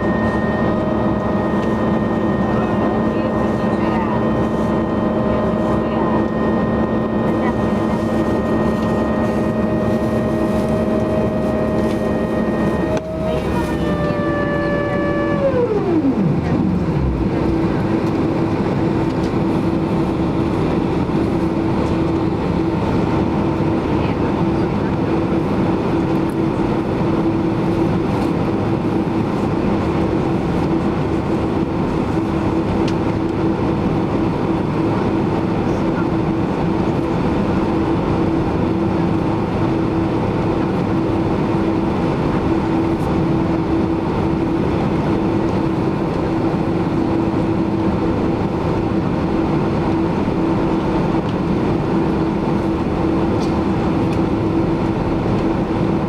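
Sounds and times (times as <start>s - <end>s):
airplane cabin drone: 0.0s - 56.0s
mid-pitched hum: 0.0s - 56.0s.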